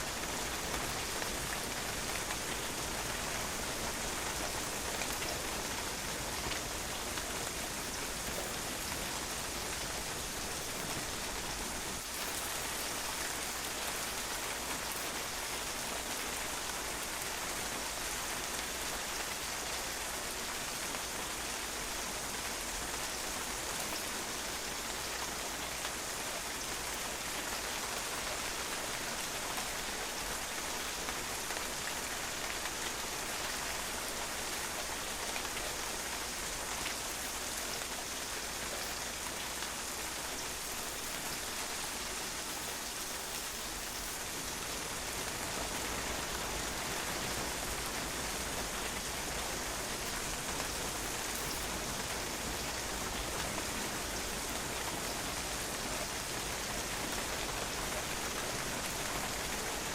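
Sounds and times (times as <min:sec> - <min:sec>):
raindrops pattering on a patio: 0:00.0 - 0:59.9
steady rain falling: 0:00.0 - 0:59.9.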